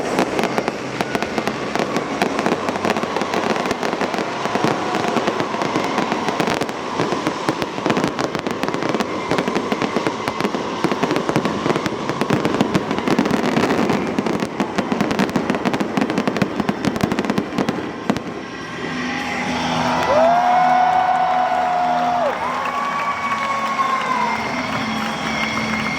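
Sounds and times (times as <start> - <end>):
fireworks crackling and banging: 0.0 - 25.9.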